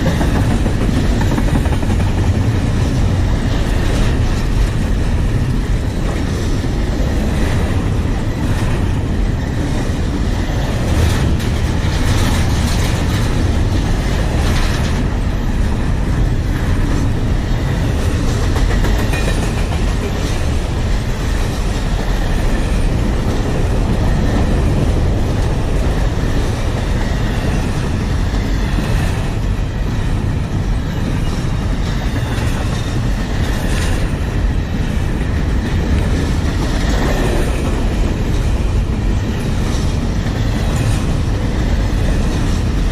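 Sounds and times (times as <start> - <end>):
freight train rumbling past: 0.0 - 42.9
wheels clicking over rail joints: 0.0 - 42.9.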